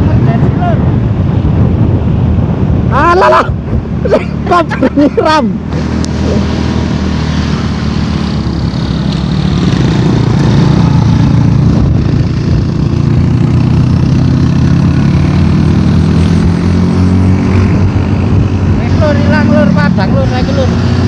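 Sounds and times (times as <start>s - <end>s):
wind rush noise: 0.0s - 21.0s.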